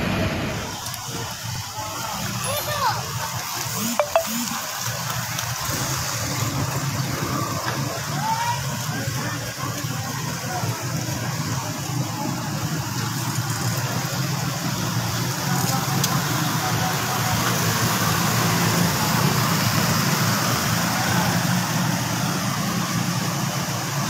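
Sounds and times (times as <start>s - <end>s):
motorcycle engines humming: 1.0s - 24.0s.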